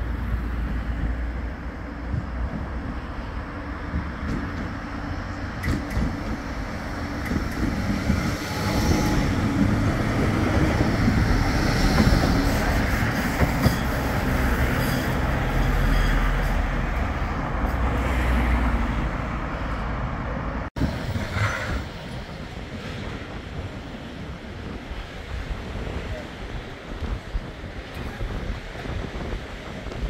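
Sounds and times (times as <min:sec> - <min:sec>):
tram running past: 0:00.0 - 0:30.0.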